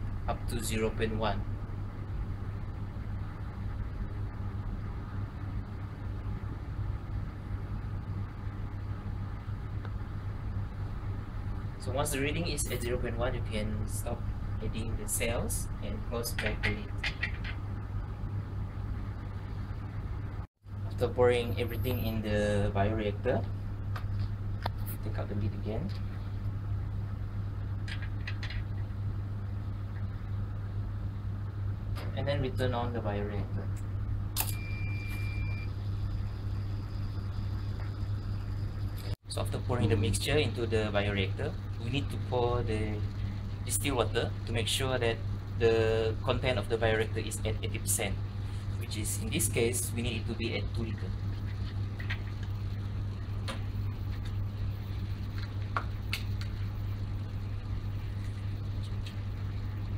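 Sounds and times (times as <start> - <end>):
low mechanical hum of machinery: 0.0 - 59.9.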